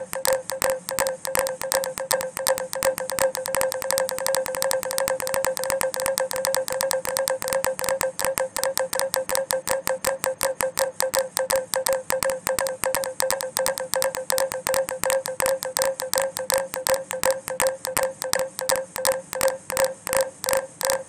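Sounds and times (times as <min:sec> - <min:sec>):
steady held tone: 0:00.0 - 0:21.0.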